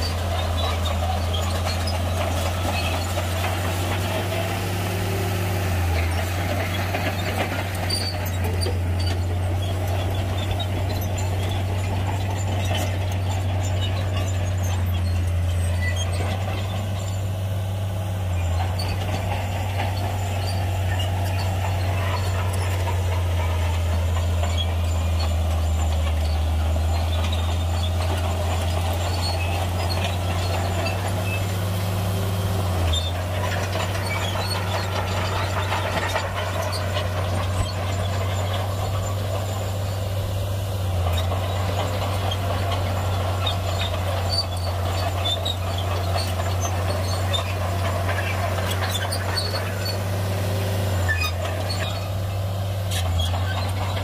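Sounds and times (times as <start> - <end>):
bulldozer diesel engine droning: 0.0 - 54.0
tracks clanking and rattling: 0.0 - 54.0.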